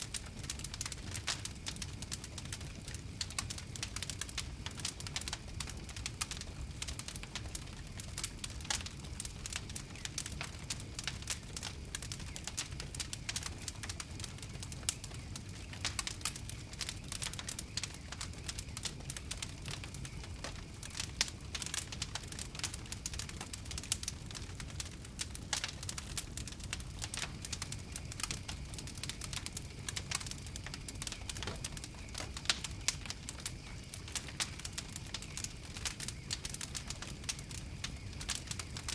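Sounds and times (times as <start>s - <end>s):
fire popping and snapping: 0.0s - 38.9s
low rumble of flames: 0.0s - 38.9s
wood fire crackling: 0.0s - 38.9s.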